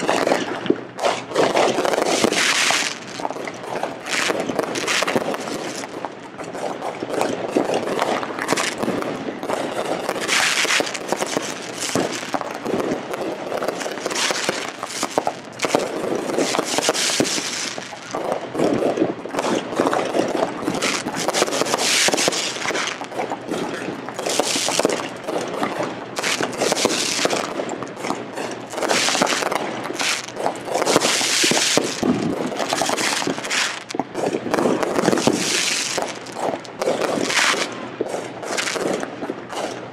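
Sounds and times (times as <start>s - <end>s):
fireworks bursting: 0.0s - 39.9s
hissing crackle of fireworks: 0.0s - 39.9s.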